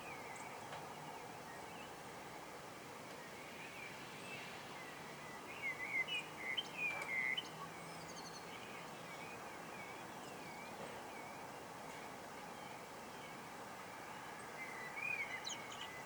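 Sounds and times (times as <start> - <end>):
outdoor background hiss: 0.0 - 16.0
songbirds singing: 0.0 - 16.0.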